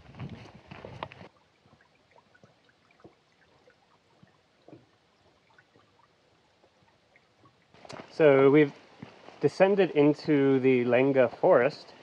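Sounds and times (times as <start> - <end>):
stream trickling faintly: 0.0 - 12.0.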